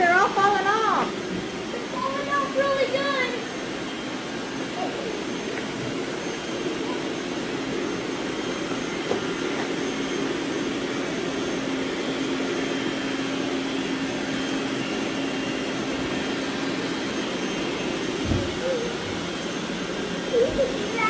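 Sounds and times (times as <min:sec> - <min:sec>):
robot vacuums whirring: 0:00.0 - 0:21.0.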